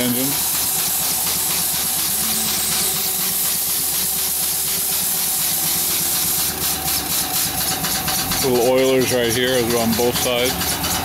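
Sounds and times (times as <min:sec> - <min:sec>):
steam engine pulsing strokes: 0:00.0 - 0:11.0
steam hissing from valves: 0:00.0 - 0:11.0.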